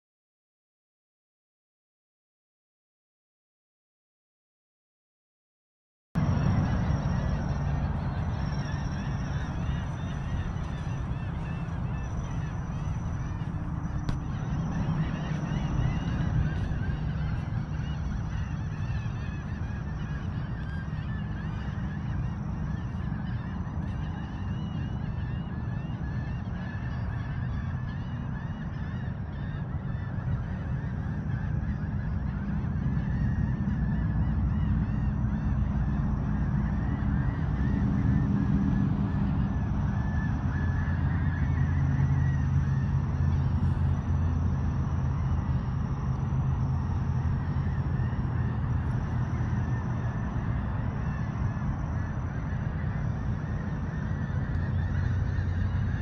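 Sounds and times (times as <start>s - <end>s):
flock of birds calling: 6.2s - 56.0s.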